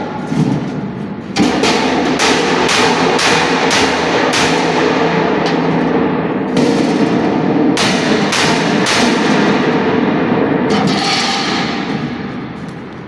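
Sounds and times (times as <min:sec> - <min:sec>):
hammer striking sheet metal: 0:01.3 - 0:13.0.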